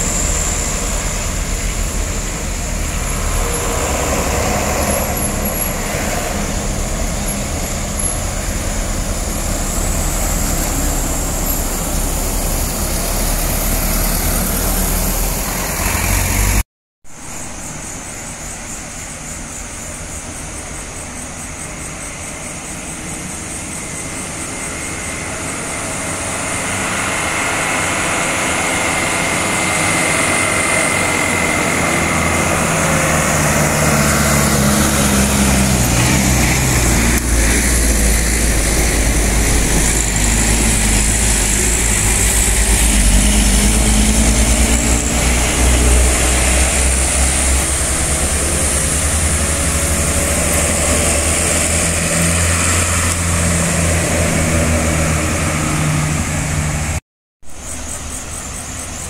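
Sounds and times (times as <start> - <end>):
bus diesel engine passing: 0.0 - 57.0.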